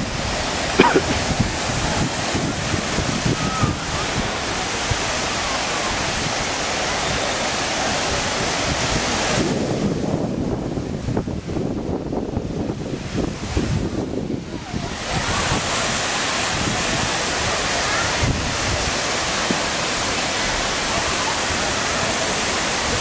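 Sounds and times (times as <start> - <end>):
fountain water rushing hiss: 0.0 - 23.0
wind rumble on microphone: 0.0 - 23.0.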